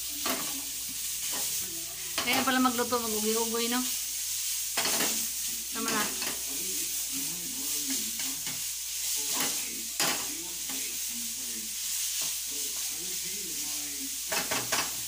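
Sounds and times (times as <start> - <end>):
meat sizzling in a wok: 0.0 - 15.0.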